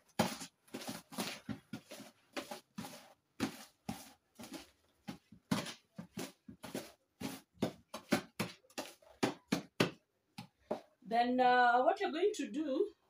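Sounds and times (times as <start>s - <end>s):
spatula stirring thick paste: 0.0s - 11.0s.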